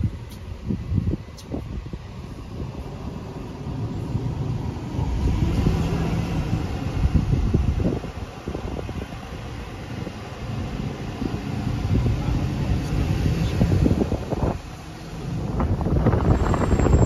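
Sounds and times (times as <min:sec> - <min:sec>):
vehicle rumble from inside cab: 0:00.0 - 0:17.0.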